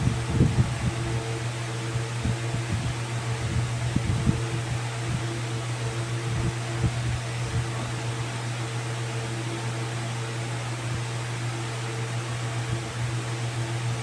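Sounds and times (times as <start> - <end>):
machine hum with hiss: 0.0 - 14.0.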